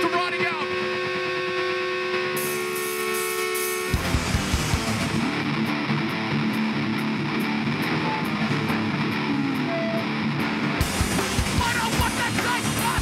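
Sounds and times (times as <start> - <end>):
distorted electric guitar riff: 0.0 - 13.0
live hardcore band: 0.0 - 13.0.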